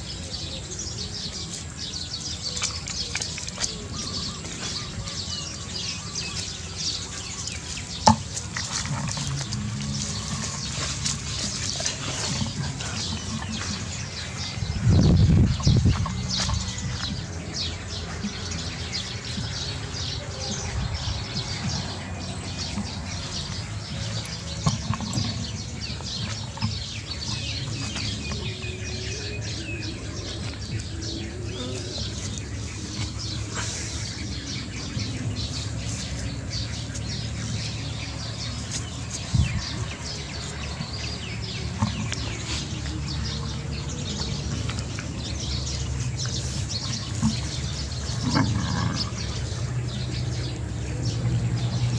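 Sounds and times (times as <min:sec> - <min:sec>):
small birds chirping: 0:00.0 - 0:51.9
low steady rumble: 0:03.8 - 0:51.9.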